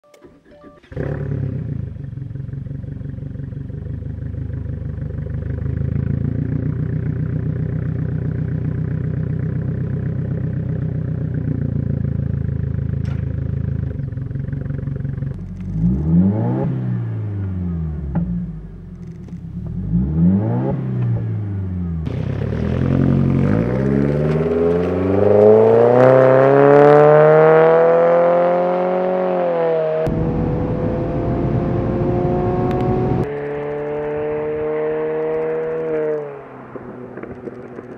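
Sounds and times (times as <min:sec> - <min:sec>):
car engine idling and revving: 0:00.6 - 0:37.9.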